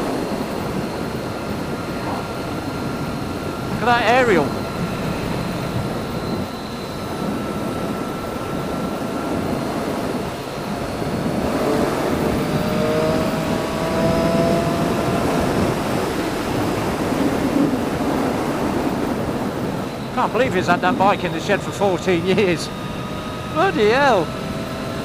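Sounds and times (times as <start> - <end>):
wind rush over microphone: 0.0 - 23.5.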